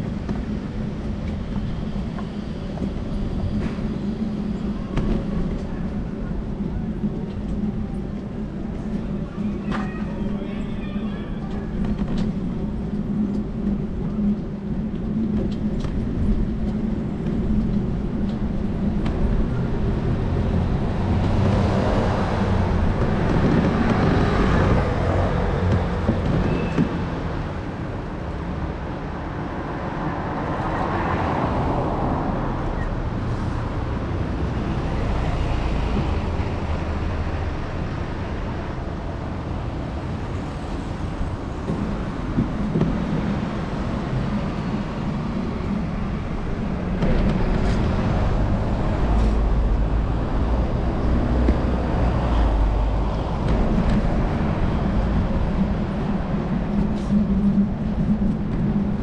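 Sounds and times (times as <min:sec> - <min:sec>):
low traffic rumble: 0:00.0 - 0:59.0
vehicles passing: 0:00.0 - 0:59.0.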